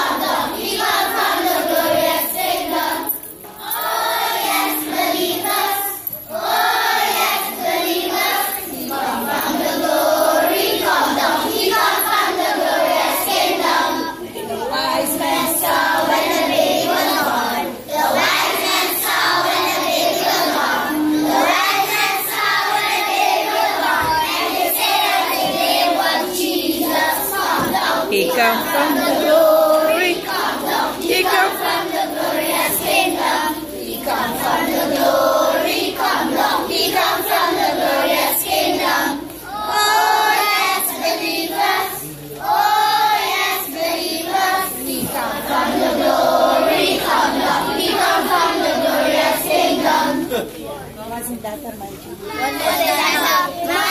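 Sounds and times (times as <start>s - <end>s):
children's choir singing a carol: 0.0s - 50.7s, 52.2s - 53.9s.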